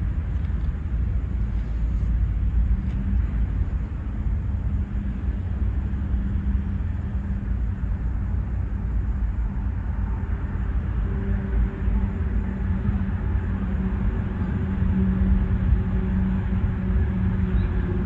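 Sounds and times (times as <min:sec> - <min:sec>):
faint constant hum: 0:00.0 - 0:18.0
low outdoor rumble: 0:00.0 - 0:18.0.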